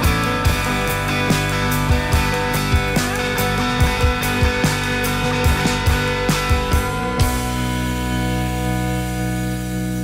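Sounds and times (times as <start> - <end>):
live band playing: 0.0 - 9.3.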